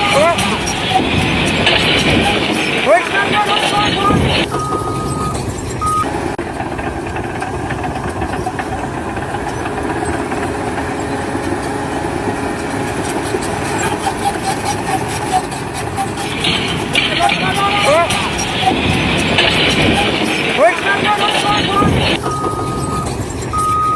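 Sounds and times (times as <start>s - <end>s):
heavy vehicle engine running: 0.0s - 23.9s.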